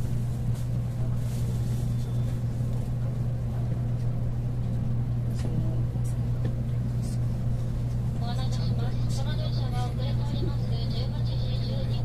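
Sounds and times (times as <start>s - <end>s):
train interior low hum: 0.0s - 12.0s.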